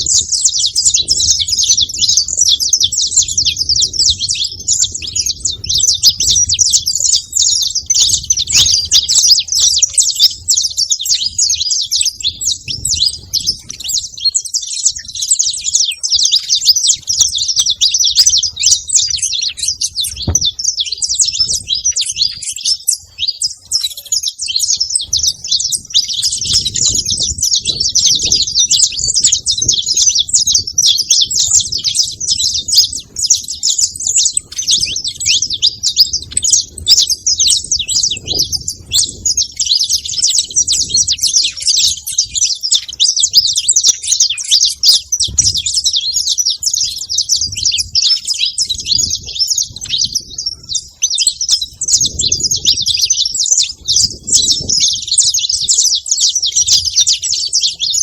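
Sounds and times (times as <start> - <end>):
finches chirping rapidly: 0.0 - 58.0.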